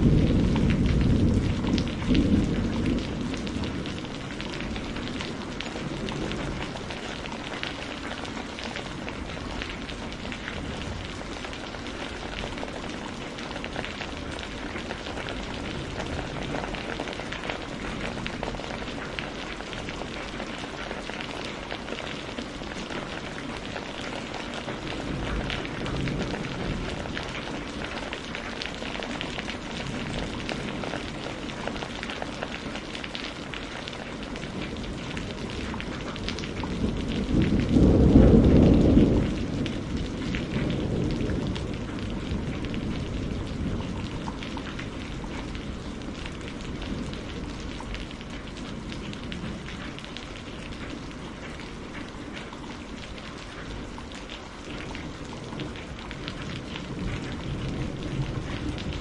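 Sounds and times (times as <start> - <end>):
steady rain falling: 0.0 - 59.0
thunder rumbling: 0.0 - 59.0.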